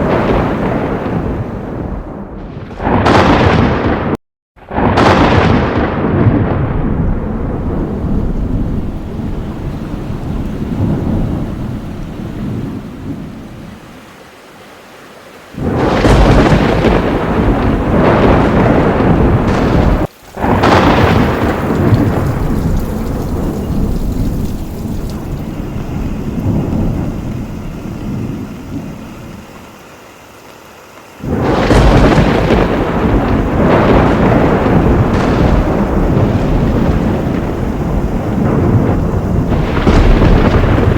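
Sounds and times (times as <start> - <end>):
steady rain: 0.0 - 4.0, 4.6 - 40.9
thunder claps: 0.0 - 14.2, 15.5 - 40.9.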